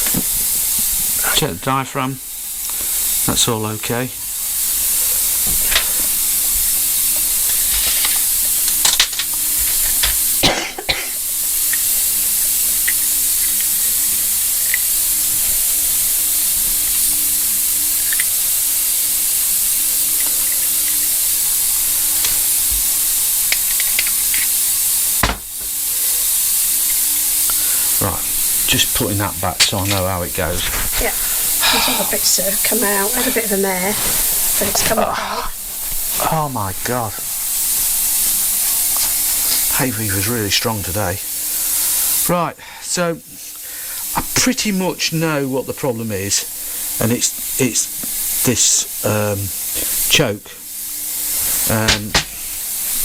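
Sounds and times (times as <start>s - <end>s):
loud steady hiss: 0.0s - 53.0s.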